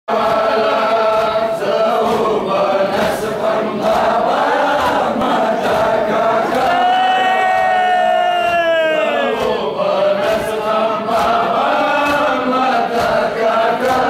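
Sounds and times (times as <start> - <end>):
men chanting together: 0.1 - 14.0
hands beating chests: 1.0 - 14.0.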